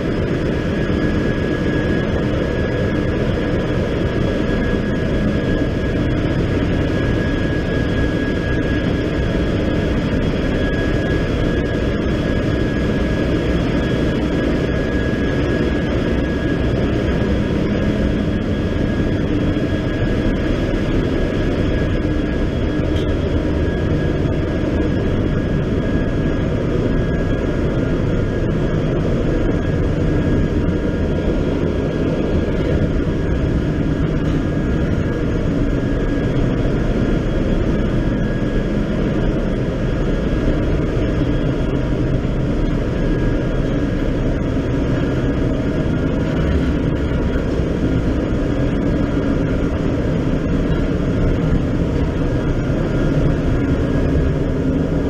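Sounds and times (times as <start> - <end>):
high whine: 0.0 - 55.0
ship engine machinery drone: 0.0 - 55.0.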